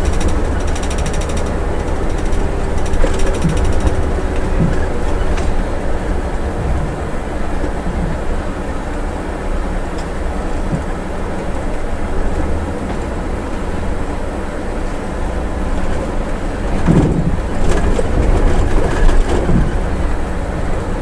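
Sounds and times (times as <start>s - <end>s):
heavy diesel engine rumble: 0.0s - 21.0s.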